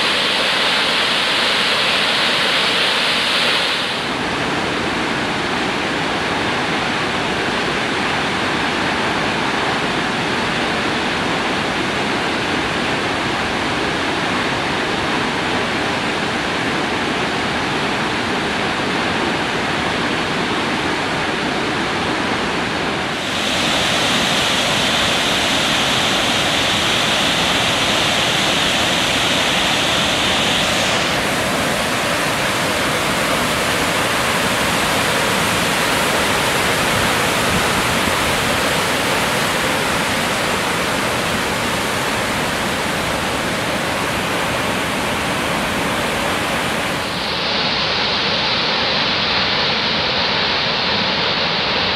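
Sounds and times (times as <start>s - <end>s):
waterfall rushing over rock: 0.0s - 51.9s.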